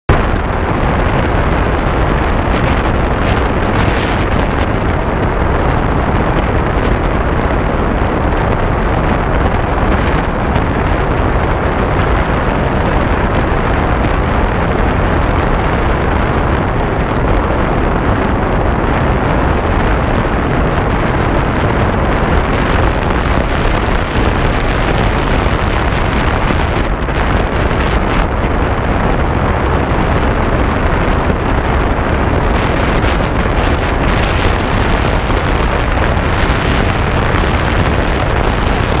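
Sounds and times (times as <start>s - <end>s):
boat running through water: 0.1s - 39.0s
wind buffeting microphone: 0.1s - 39.0s.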